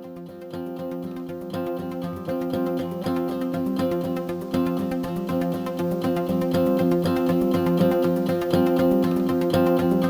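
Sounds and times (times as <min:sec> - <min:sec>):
plucked guitar-like music with beat: 0:00.0 - 0:10.0.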